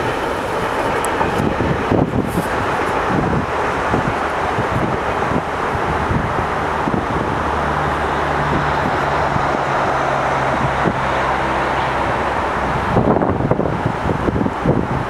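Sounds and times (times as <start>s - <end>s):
train wheels rolling on rails: 0.0s - 15.0s
wind buffeting microphone: 0.0s - 15.0s.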